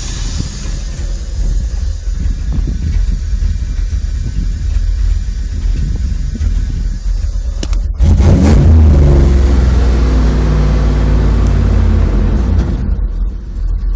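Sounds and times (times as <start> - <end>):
truck engine idling and revving: 0.0 - 13.9.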